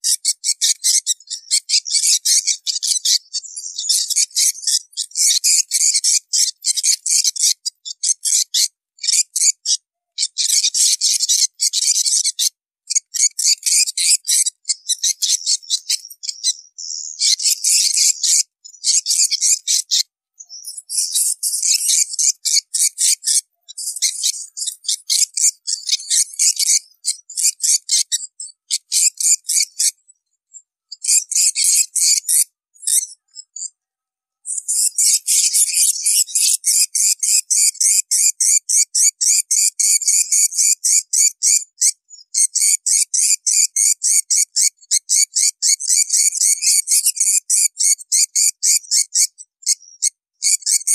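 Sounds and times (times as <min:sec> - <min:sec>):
high buzzy bird chirps: 0:00.0 - 0:30.2, 0:30.9 - 0:33.7, 0:34.4 - 0:50.9.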